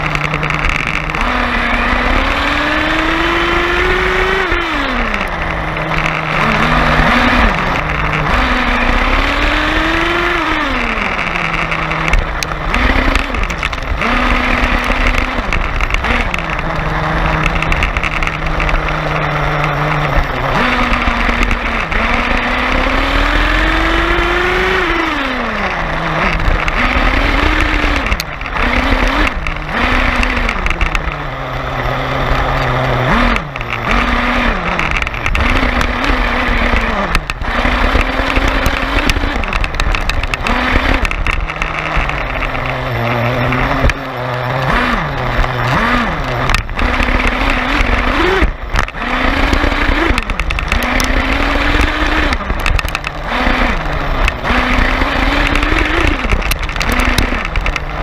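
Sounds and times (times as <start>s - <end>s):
toy truck motor revving: 0.0s - 58.0s
tyre and chassis rattle: 0.0s - 58.0s.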